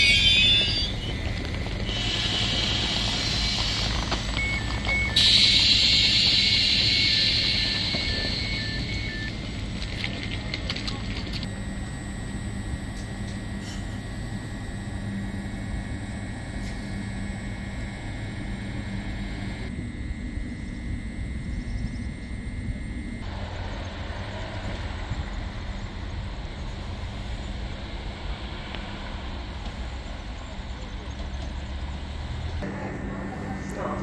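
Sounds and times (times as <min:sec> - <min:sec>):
train equipment humming: 0:00.0 - 0:34.0.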